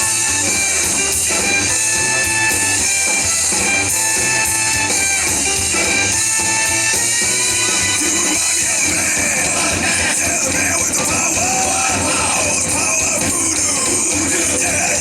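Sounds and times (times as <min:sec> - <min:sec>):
instrumental pop music: 0:00.0 - 0:15.0.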